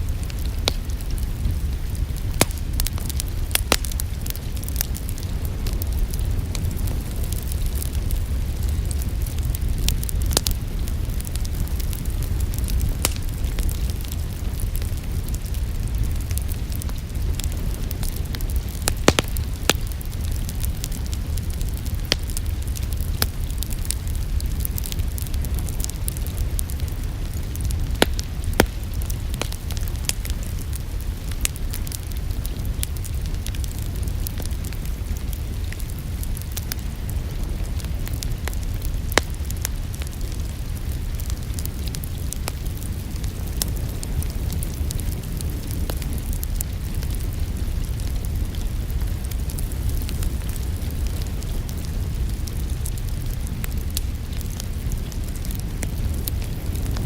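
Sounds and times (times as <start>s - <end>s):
sharp fire pops: 0.0s - 57.0s
steady low rumble: 0.0s - 57.0s
wood fire crackling: 0.0s - 57.0s.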